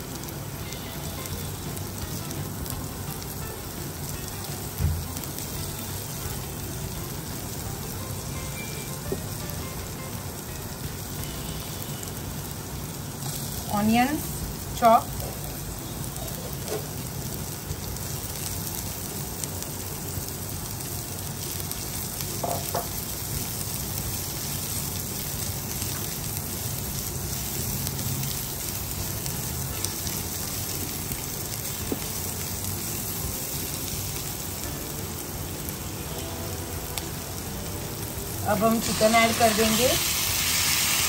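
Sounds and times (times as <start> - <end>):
onion and garlic sizzling in oil: 0.0 - 41.0.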